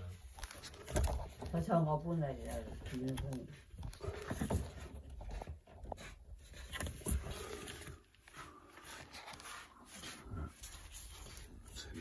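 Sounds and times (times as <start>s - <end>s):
soft handling knocks and rustles: 0.0s - 12.0s.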